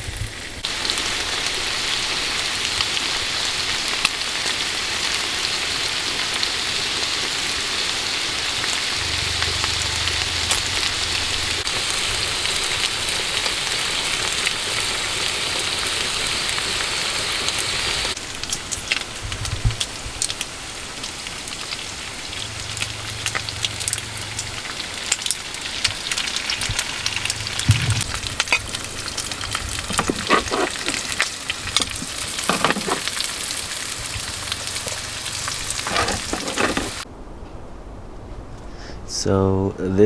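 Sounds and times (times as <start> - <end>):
food frying in a pan: 0.0 - 37.1.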